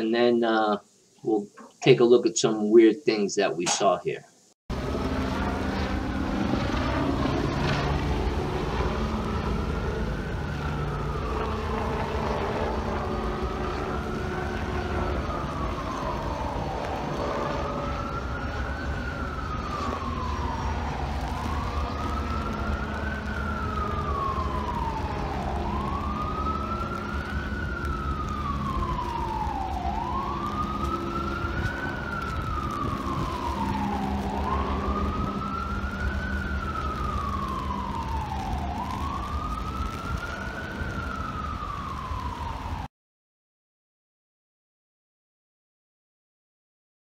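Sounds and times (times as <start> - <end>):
emergency siren wailing: 4.7 - 42.9.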